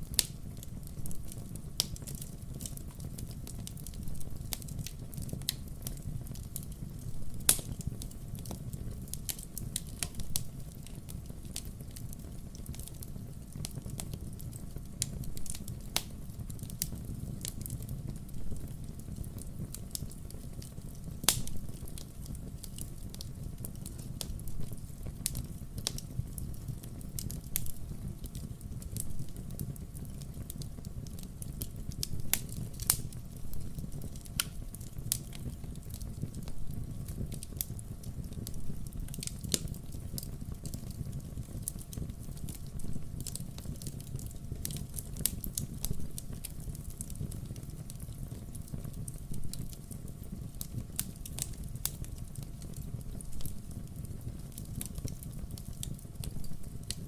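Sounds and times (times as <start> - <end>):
burning firewood crackling: 0.0 - 57.0
fire low rumble: 0.0 - 57.0.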